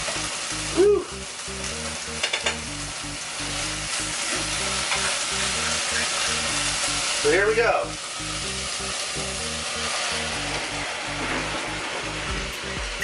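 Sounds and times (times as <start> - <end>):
curry sizzling in a hot pot: 0.0 - 13.0.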